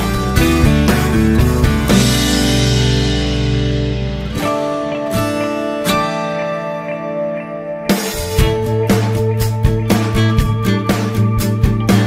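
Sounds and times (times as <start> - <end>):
guitar and drums music: 0.0 - 12.0.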